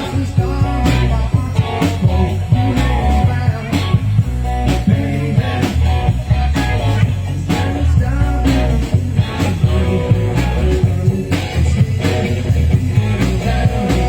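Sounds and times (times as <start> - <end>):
bass guitar: 0.0 - 14.0
electric guitar: 0.0 - 14.0
steady drum beat: 0.0 - 14.0.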